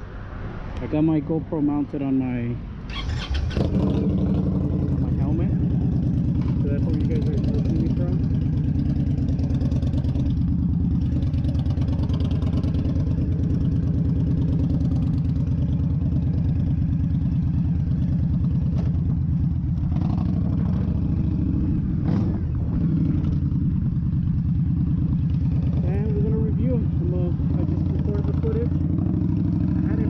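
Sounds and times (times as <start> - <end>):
motorcycle engine running: 2.9 - 30.0.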